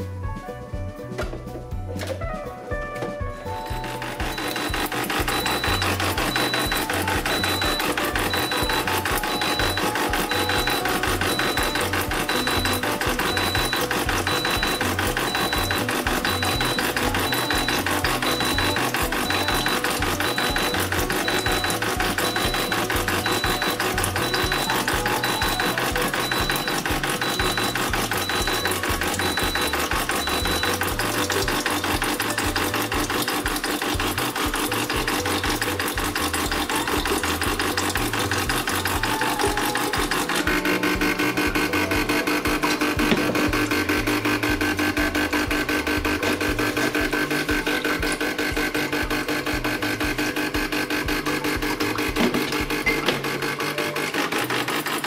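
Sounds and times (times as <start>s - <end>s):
espresso machine pump buzzing: 3.3s - 55.0s.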